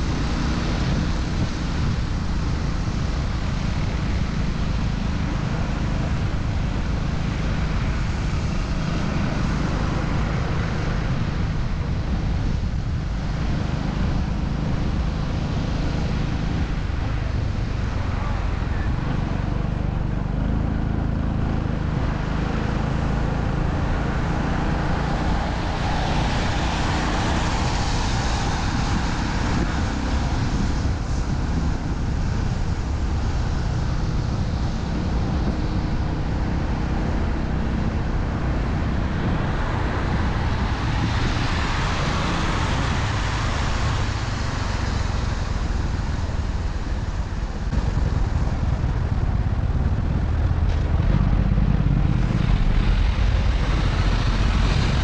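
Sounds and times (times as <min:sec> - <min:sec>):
road traffic rumble: 0:00.0 - 0:55.0
vehicles passing: 0:00.0 - 0:55.0.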